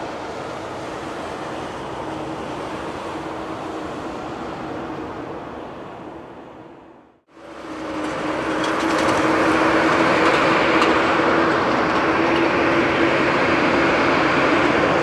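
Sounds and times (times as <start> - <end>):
jet engines at high thrust: 0.0 - 15.0.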